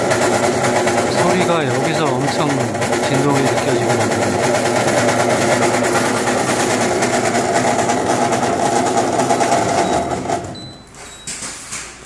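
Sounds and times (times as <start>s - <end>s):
machine mechanical buzz: 0.0s - 12.0s.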